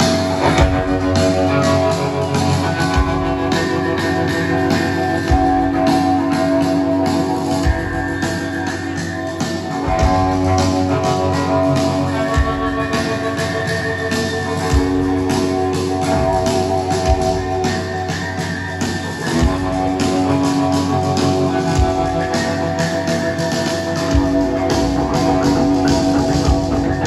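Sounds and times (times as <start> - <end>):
held electric guitar chords: 0.0 - 27.0.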